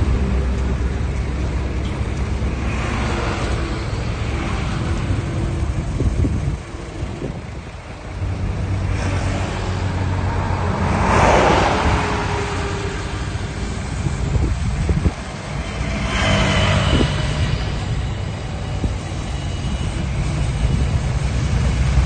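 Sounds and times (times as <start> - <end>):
heavy diesel engines running: 0.0 - 22.0
rushing surges of noise: 0.0 - 22.0.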